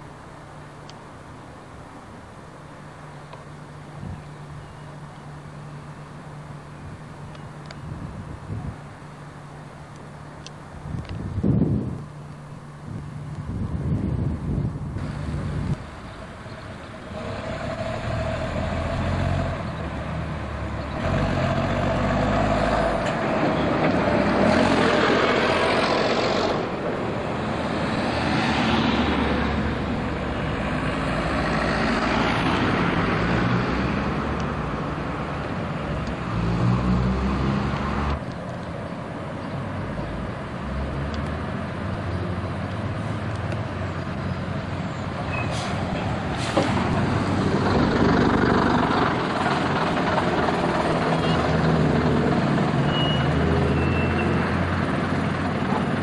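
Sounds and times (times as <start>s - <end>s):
bus diesel engines: 0.0s - 56.0s
road traffic: 0.0s - 56.0s.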